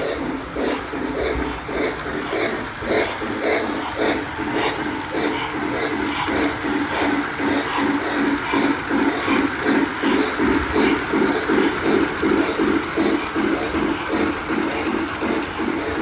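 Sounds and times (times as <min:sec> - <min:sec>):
toy trains clattering on track: 0:00.0 - 0:16.0.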